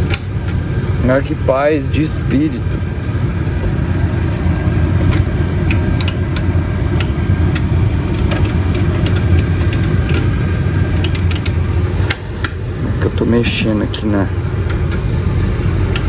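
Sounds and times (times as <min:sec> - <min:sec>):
blower fan humming with faint whine: 0:00.0 - 0:16.0.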